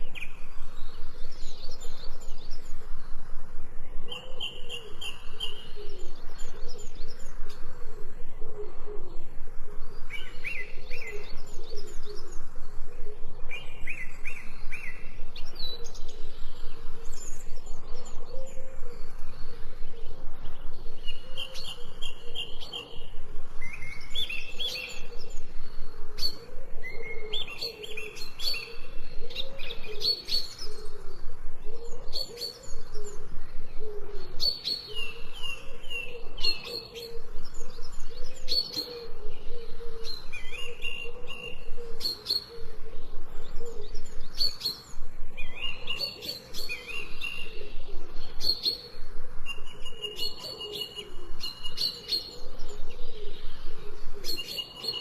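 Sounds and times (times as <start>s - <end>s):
birds chirping and calling: 0.0s - 55.0s
lower bird chirping: 0.0s - 55.0s.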